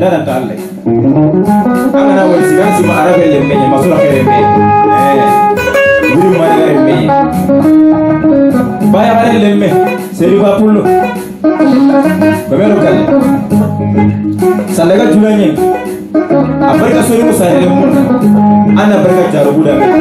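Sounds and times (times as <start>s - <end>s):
electric guitar melody: 0.0s - 20.0s.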